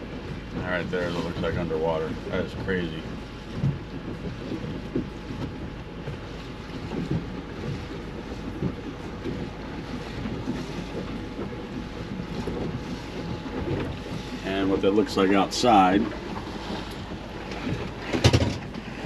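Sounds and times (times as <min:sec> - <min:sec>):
outboard motor humming: 0:00.0 - 0:19.0
water washing against hull: 0:00.0 - 0:19.0
wind on microphone: 0:00.0 - 0:19.0.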